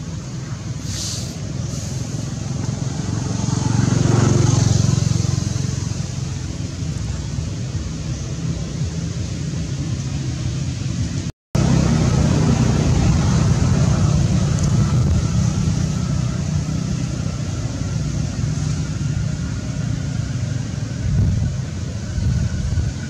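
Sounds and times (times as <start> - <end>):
hiss: 0.0 - 23.0
low rumble: 2.3 - 23.0.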